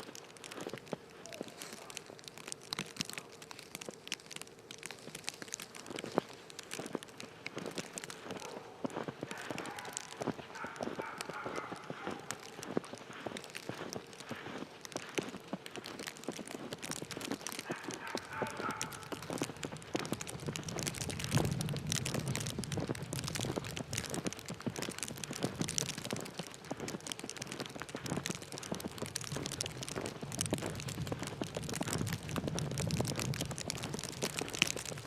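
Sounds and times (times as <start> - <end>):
footsteps crunching in snow: 0.0 - 35.0.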